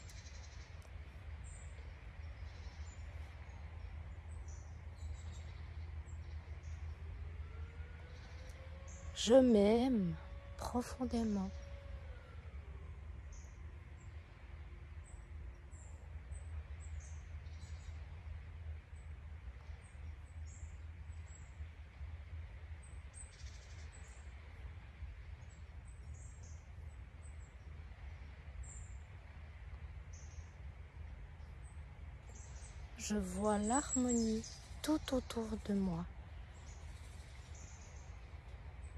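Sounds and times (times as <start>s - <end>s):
songbirds chirping: 0.0s - 38.9s
steady low rumble: 0.0s - 38.9s.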